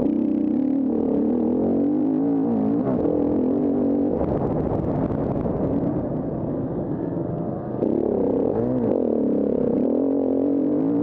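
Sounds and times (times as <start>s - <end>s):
motorcycle engine revving: 0.0s - 6.2s, 7.7s - 11.0s.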